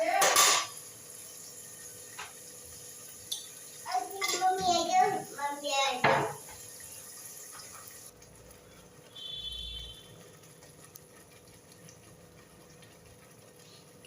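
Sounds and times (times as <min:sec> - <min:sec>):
food frying in a pan: 0:00.0 - 0:14.0.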